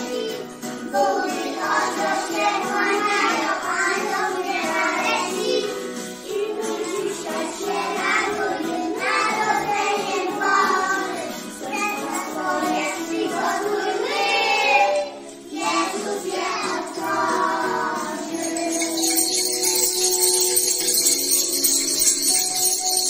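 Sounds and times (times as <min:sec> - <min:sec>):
children singing in unison: 0:00.0 - 0:20.9.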